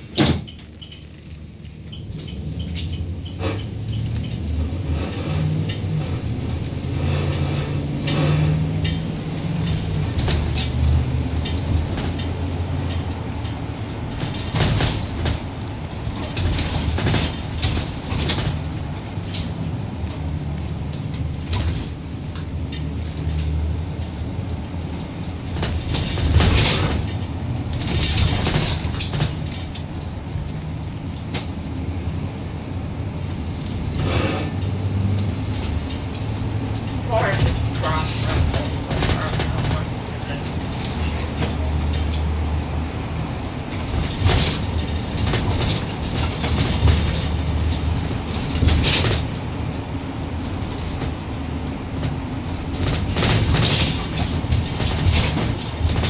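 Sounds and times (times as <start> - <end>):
body rattles and clunks: 0.0 - 56.0
bus drivetrain and road rumble: 0.0 - 56.0.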